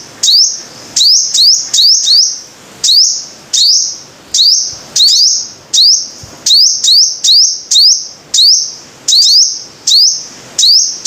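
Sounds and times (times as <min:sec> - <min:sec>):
sunbird chirping: 0:00.0 - 0:11.0.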